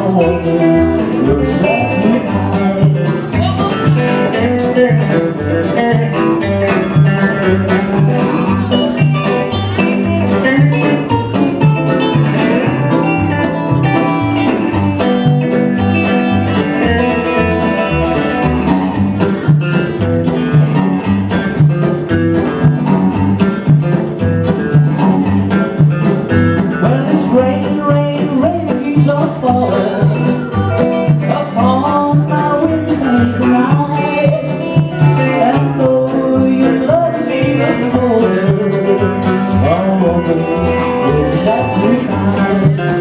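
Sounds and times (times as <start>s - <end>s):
country string band playing: 0.0s - 43.0s
double bass plucking: 0.0s - 43.0s.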